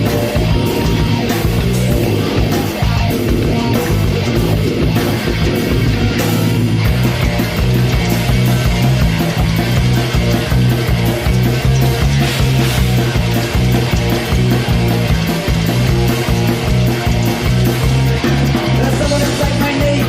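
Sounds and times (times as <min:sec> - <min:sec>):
loud rock music: 0:00.0 - 0:20.0.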